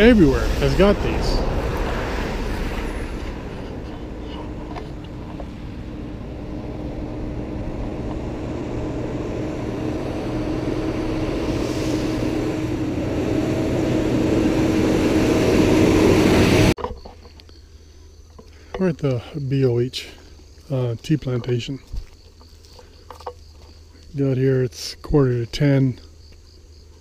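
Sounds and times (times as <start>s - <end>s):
road noise: 0.0s - 27.0s
vehicle engine rumble: 0.0s - 27.0s.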